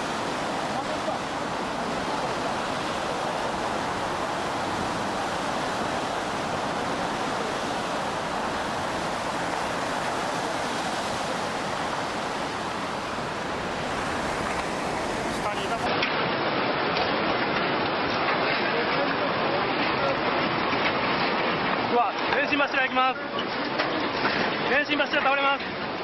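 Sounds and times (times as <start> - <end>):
turbulent seawater rushing: 0.0 - 26.0.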